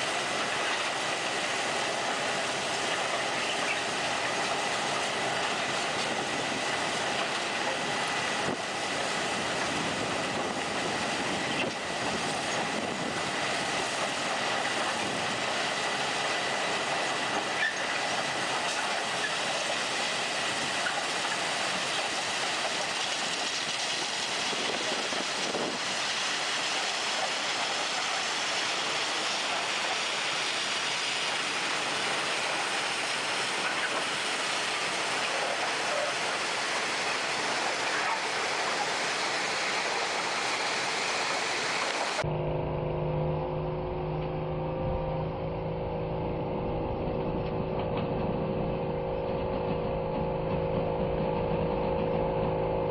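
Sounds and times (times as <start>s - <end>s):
rail vehicle rumbling on track: 0.0s - 52.9s.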